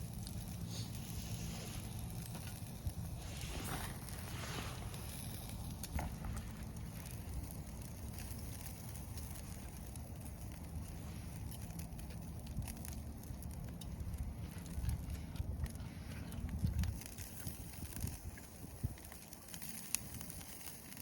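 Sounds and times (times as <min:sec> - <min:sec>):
campfire crackling: 0:00.0 - 0:21.0
wind rumble on microphone: 0:00.0 - 0:21.0.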